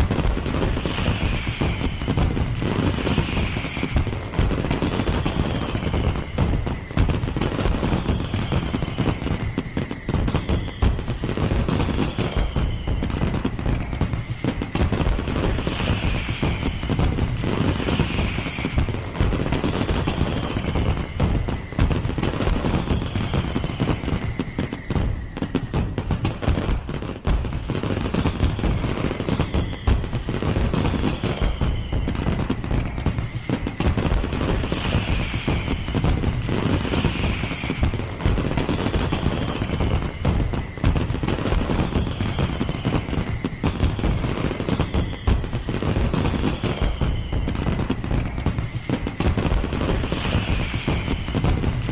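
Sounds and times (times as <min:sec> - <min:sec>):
falling firework whistles: 0:00.0 - 0:51.9
fireworks bangs and crackles: 0:00.0 - 0:51.9.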